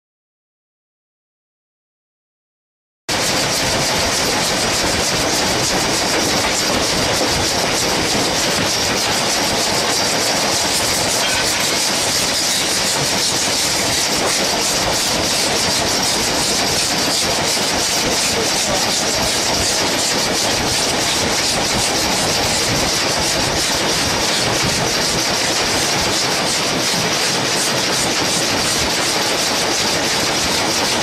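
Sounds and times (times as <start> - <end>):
steam train running at speed: 3.1 - 31.0.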